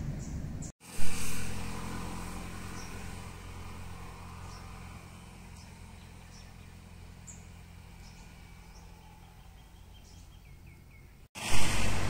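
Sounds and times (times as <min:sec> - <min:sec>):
low engine hum: 0:00.0 - 0:12.0
vehicle passing: 0:00.6 - 0:12.0.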